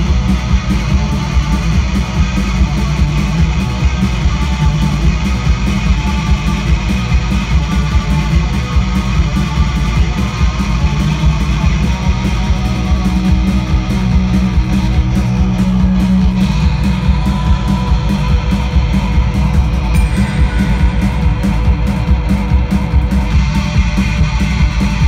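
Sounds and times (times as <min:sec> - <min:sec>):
electric guitar: 0:00.0 - 0:25.0
steady drum beat: 0:00.0 - 0:25.0.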